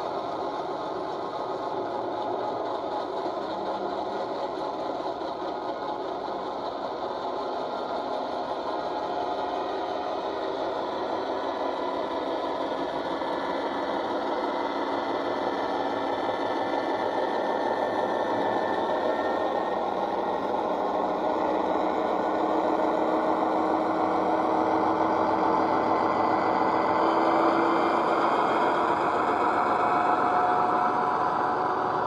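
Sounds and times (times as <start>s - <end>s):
model locomotive diesel engine sound: 0.0s - 32.0s.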